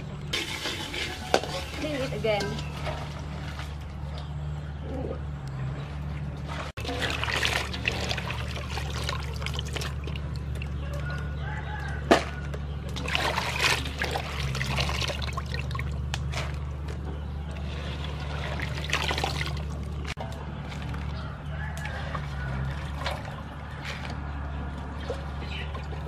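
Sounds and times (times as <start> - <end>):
water swishing and trickling: 0.0 - 26.0.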